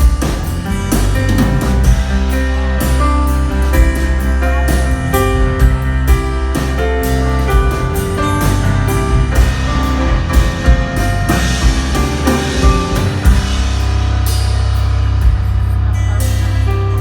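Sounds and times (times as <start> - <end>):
drum and cymbal hits: 0.0 - 17.0
live band playing: 0.0 - 17.0.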